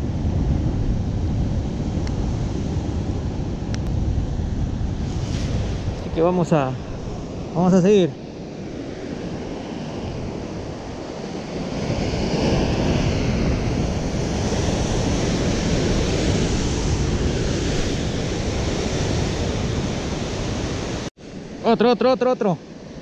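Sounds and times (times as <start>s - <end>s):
wind buffeting microphone: 0.0s - 21.6s
ocean surf breaking over rocks: 0.0s - 23.0s.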